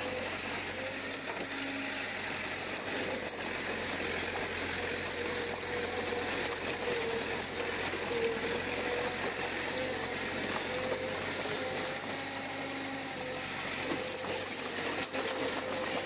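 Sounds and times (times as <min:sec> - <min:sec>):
bulldozer diesel engine running: 0:00.0 - 0:16.0
wavering hum: 0:02.6 - 0:16.0.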